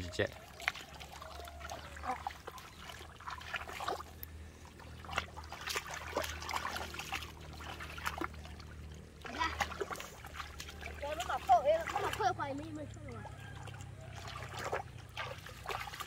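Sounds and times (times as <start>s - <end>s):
muddy water splashing and sloshing: 0.0s - 16.0s.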